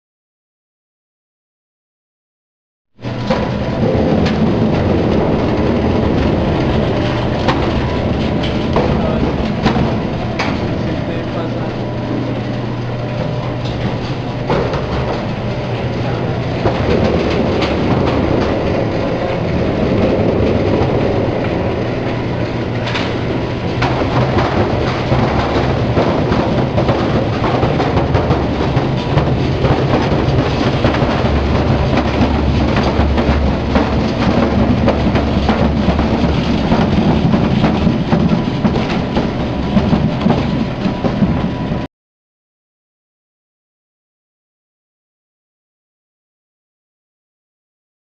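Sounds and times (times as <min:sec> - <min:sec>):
machine rattling clatter: 0:03.0 - 0:41.9.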